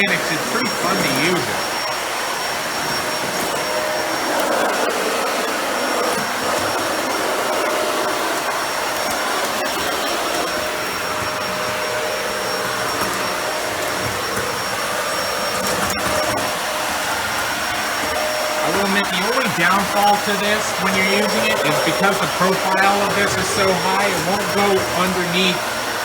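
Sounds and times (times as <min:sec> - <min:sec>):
vacuum cleaner motor whining: 0:00.0 - 0:26.0.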